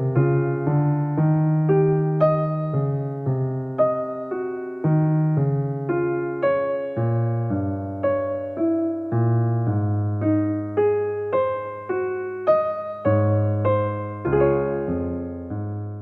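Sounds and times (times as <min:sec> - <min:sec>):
piano notes: 0:00.0 - 0:16.0.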